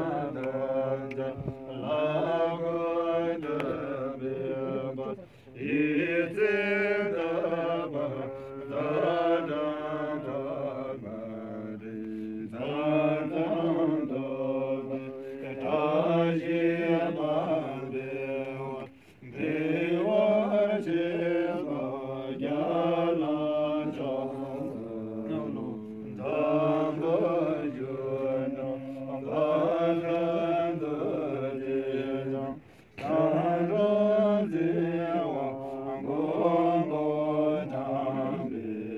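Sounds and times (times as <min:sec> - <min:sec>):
monks chanting prayers: 0:00.0 - 0:38.9.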